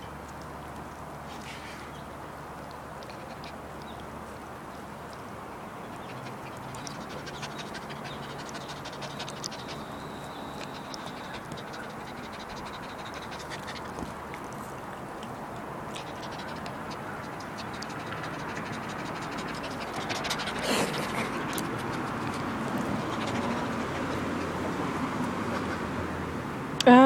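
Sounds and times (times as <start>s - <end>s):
dogs panting: 2.8s - 4.4s, 5.2s - 14.7s, 15.4s - 26.6s.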